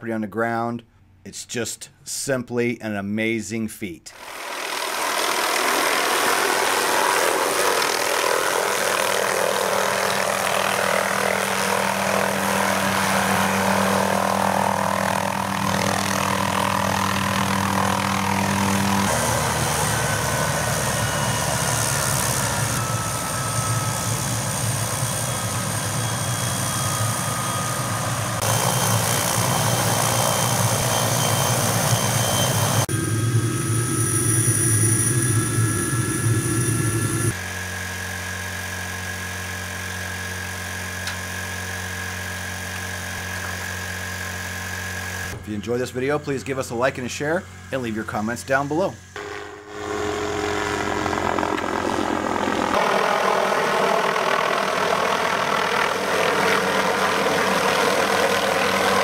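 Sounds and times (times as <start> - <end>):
helicopter engine and rotor: 4.2 - 45.4, 49.0 - 59.0.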